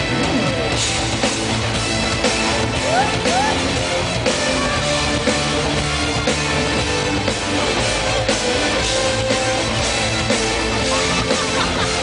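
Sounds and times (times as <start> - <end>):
pop-rock music over sound system: 0.0 - 12.0.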